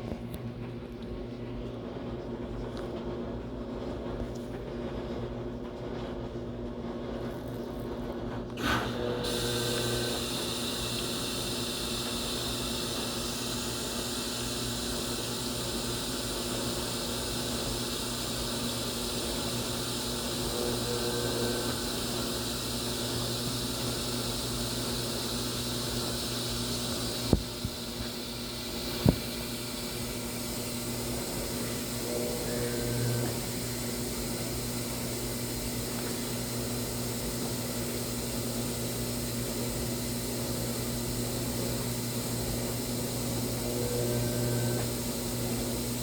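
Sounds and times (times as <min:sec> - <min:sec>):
washing machine humming: 0:00.0 - 0:46.0.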